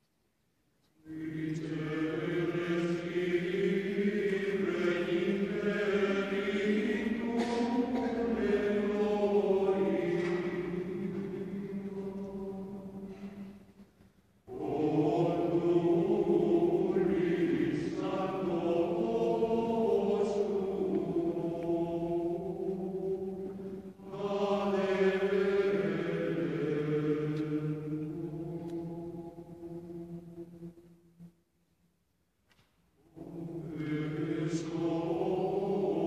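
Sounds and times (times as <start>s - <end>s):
choir singing sustained chords: 1.0s - 31.6s, 33.0s - 36.0s.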